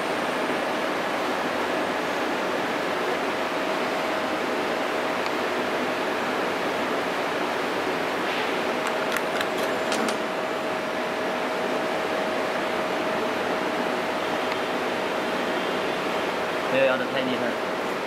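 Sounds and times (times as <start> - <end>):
cooling fan hiss: 0.0 - 18.0.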